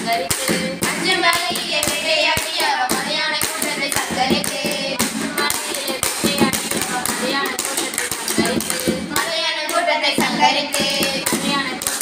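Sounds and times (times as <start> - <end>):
girls singing together: 0.0 - 12.0
sharp hand claps: 0.0 - 12.0.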